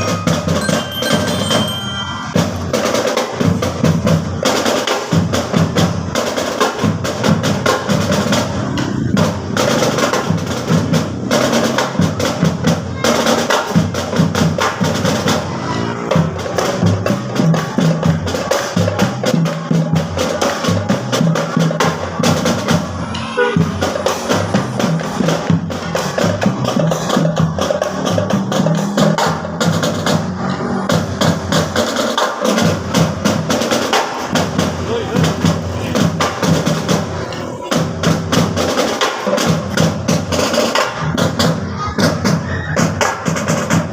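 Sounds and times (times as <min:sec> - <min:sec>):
marching drum band playing: 0:00.0 - 0:43.9.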